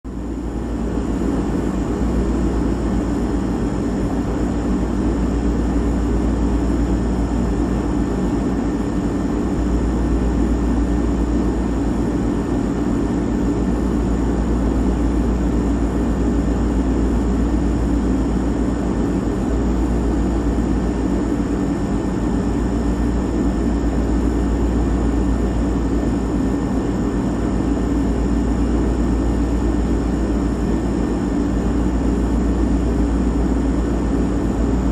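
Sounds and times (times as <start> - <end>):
refrigerator compressor humming: 0.1 - 34.9.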